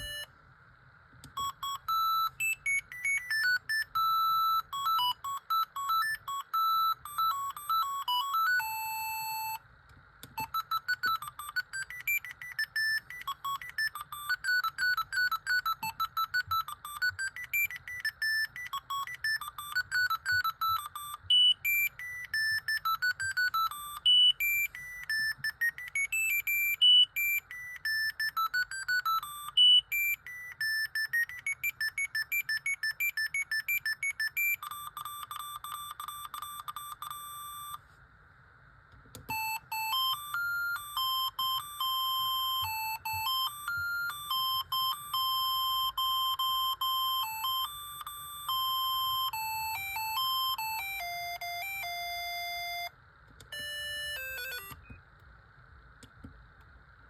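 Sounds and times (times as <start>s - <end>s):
mobile phone ringtone beeps: 0.0s - 0.3s, 1.4s - 9.6s, 10.4s - 37.8s, 39.3s - 52.9s, 53.5s - 54.9s.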